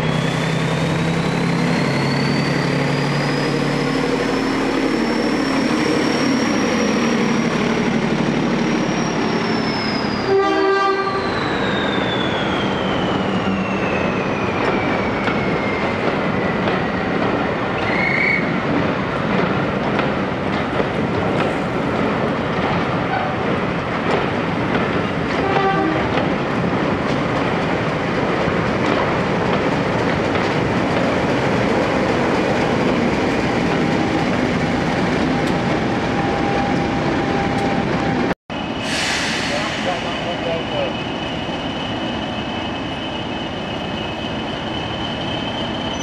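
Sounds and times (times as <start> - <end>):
train rumbling past: 0.0 - 46.0.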